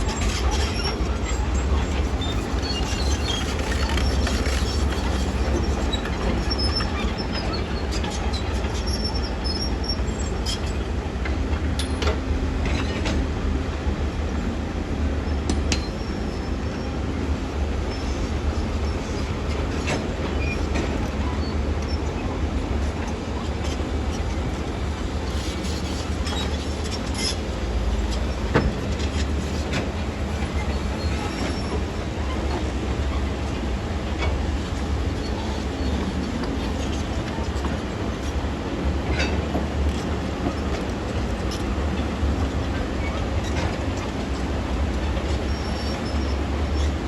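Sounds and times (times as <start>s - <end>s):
low diesel rumble: 0.0s - 47.0s.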